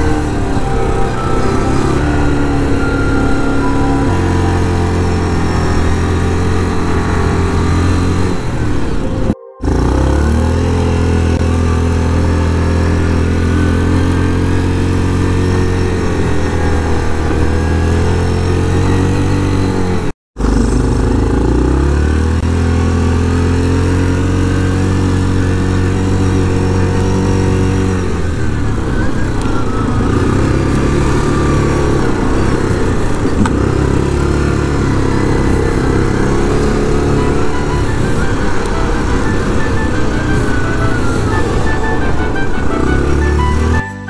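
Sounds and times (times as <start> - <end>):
quad bike engine running: 0.0 - 43.9.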